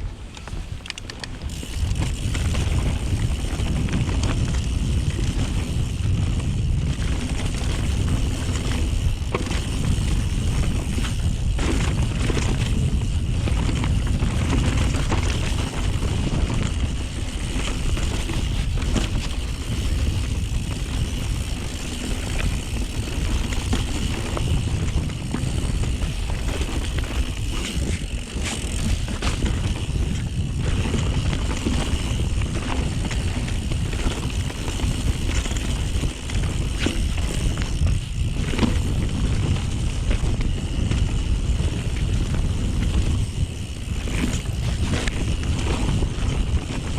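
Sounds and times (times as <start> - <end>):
bike tyres rumbling on dirt: 0.0 - 46.9
wind on microphone: 0.0 - 46.9
bike clattering over bumps: 0.2 - 46.9.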